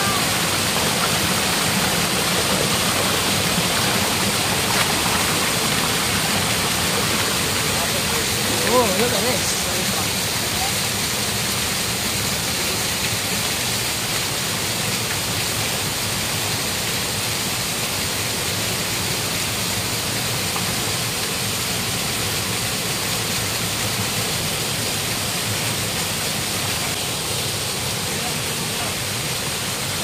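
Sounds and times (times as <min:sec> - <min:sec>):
waterfall pouring: 0:00.0 - 0:30.0.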